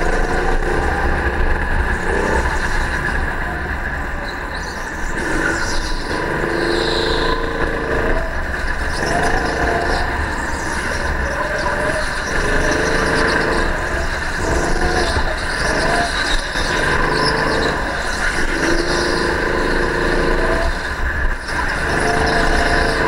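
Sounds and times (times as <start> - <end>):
go-kart motor revving: 0.0 - 23.0.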